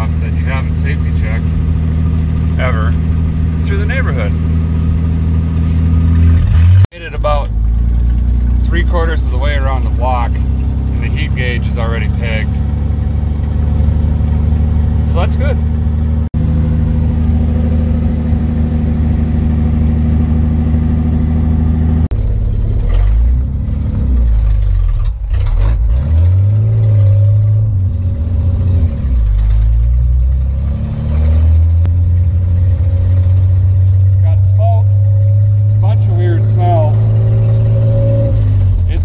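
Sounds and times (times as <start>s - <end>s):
car engine droning: 0.0s - 39.0s
engine revving: 0.0s - 39.0s.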